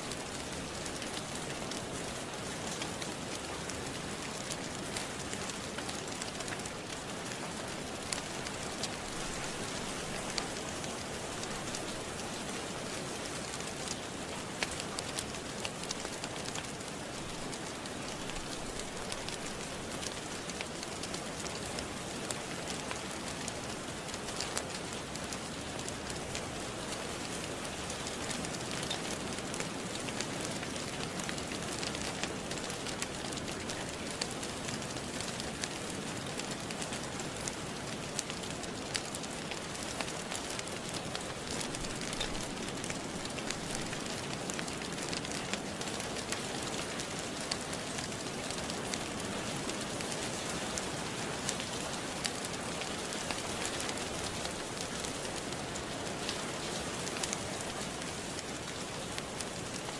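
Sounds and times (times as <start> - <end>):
rain falling: 0.0 - 59.9
wood fire crackling: 0.0 - 59.9.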